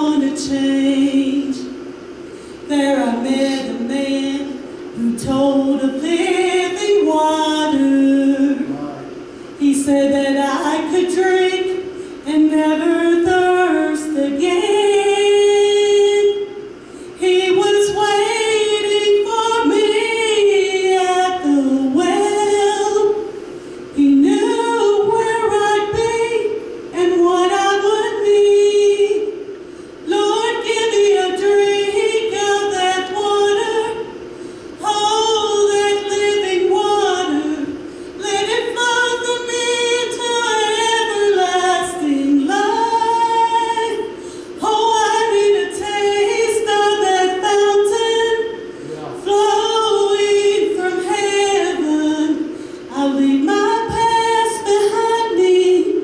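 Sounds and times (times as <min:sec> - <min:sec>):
woman singing gospel: 0:00.0 - 0:56.0.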